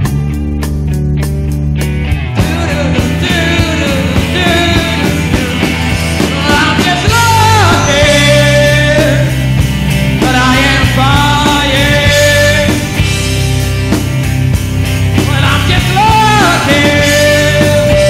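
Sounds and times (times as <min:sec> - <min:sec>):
bending lead guitar melody: 0:00.0 - 0:18.0
rock band playing live: 0:00.0 - 0:18.0.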